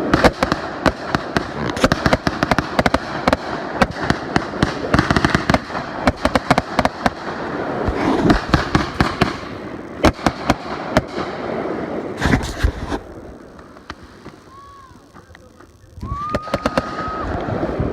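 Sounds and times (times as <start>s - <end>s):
loud firework bangs: 0.0s - 15.3s, 16.1s - 17.9s
fireworks cracking and popping: 0.0s - 17.9s.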